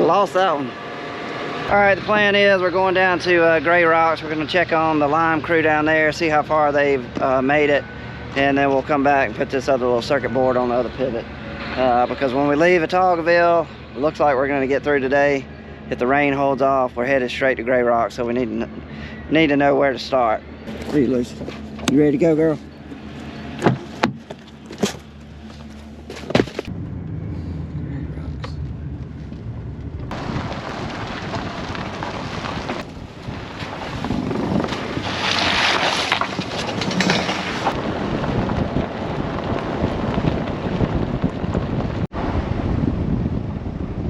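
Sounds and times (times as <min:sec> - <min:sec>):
vehicle driving: 0:00.0 - 0:44.0.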